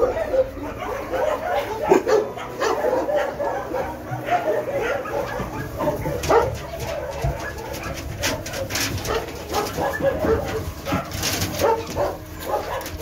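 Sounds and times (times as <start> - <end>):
puppies whining and yipping: 0.0 - 13.0
rustling in hay: 0.0 - 13.0.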